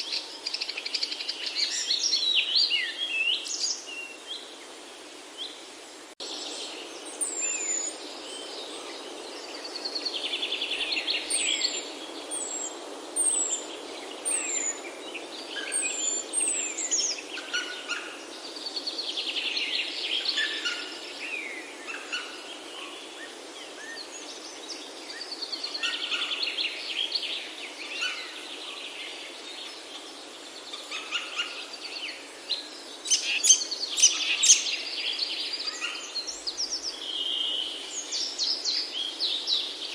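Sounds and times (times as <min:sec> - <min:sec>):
steady background hiss: 0:00.0 - 0:39.9
birds singing and calling: 0:06.2 - 0:39.9.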